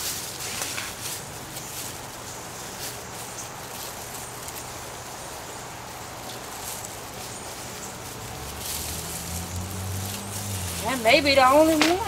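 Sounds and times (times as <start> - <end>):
hands digging through soil: 0.0 - 12.0
outdoor background hiss: 0.0 - 12.0.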